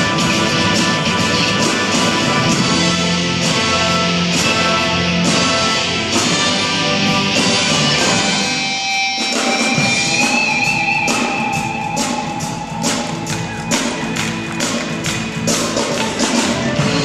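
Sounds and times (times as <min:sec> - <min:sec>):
electric and acoustic guitars: 0:00.0 - 0:17.0
orchestra strings: 0:00.0 - 0:17.0
percussion hits: 0:00.0 - 0:17.0.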